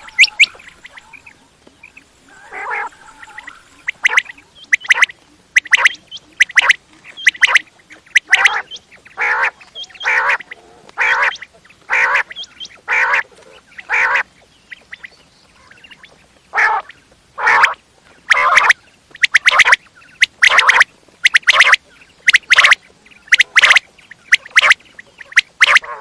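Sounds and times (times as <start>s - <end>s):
quail calling: 0.0s - 26.0s.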